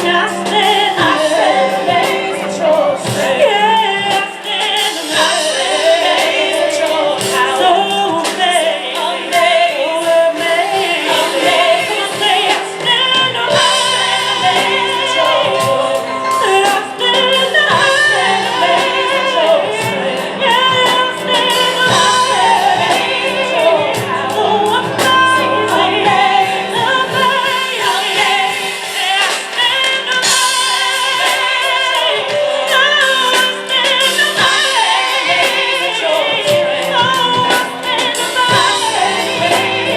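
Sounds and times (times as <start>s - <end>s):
drums: 0.0s - 39.9s
piano: 0.0s - 39.9s
women singing gospel: 0.0s - 39.9s.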